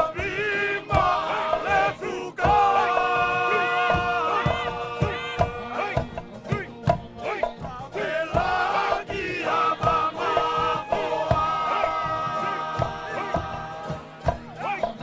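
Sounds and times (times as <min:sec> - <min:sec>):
sharp percussive strikes: 0:00.0 - 0:07.6, 0:08.4 - 0:15.0
group singing and chanting: 0:00.0 - 0:15.0.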